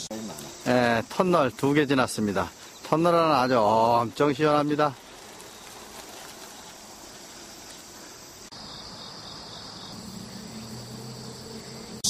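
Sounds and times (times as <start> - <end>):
high insect drone: 0.0 - 12.0
insects chirring: 0.0 - 12.0.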